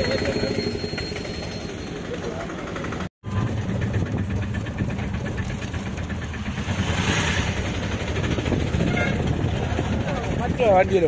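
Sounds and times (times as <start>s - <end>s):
auto-rickshaw engine chugging: 0.0s - 11.0s.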